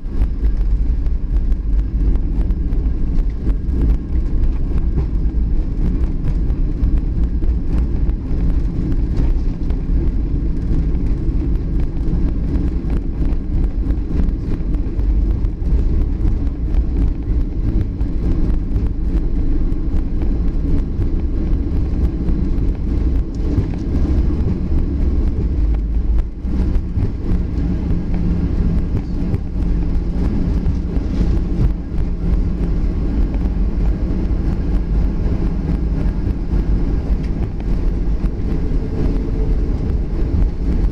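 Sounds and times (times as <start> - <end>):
aircraft engine noise: 0.0 - 40.9
wheels rolling over pavement: 0.0 - 40.9.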